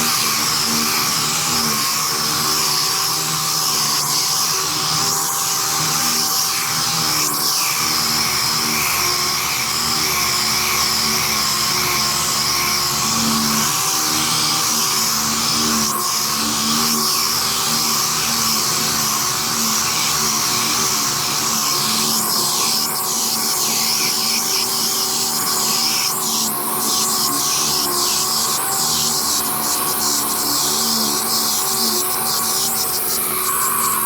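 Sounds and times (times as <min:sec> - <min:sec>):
air-powered orbital sander whining: 0:00.0 - 0:34.0.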